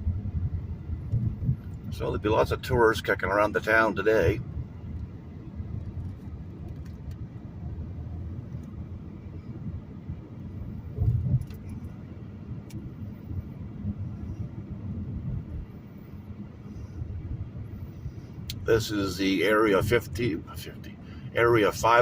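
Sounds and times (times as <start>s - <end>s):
car driving rumble from cabin: 0.0s - 22.0s.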